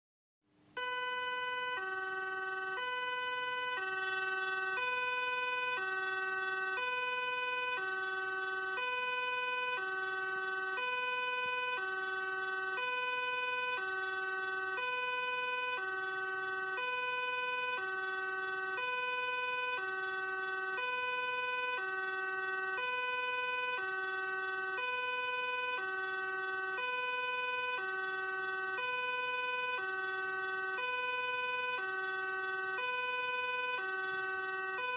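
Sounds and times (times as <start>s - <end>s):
two-tone police siren: 0.6s - 34.9s.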